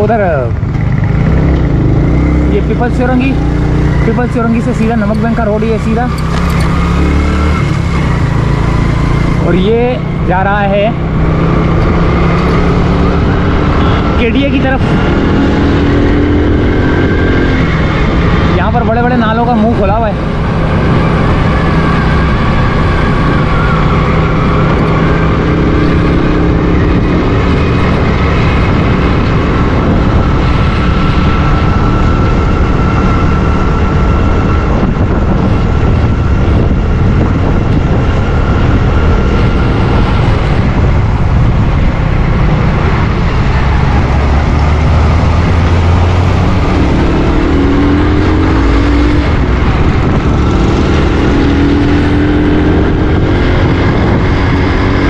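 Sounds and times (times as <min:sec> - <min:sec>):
motorcycle engine running: 0:00.0 - 0:55.0
wind and road rush: 0:00.0 - 0:55.0.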